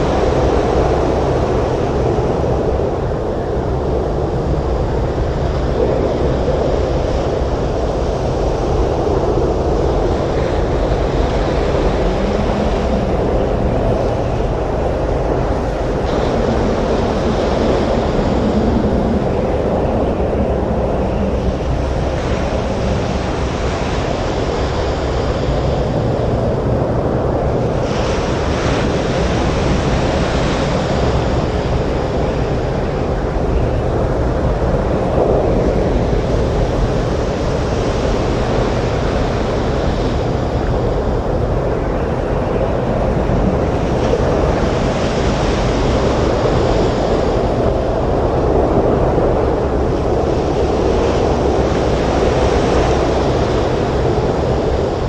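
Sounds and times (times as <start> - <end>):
roar of breaking waves: 0.0 - 55.0
strong wind: 0.0 - 55.0.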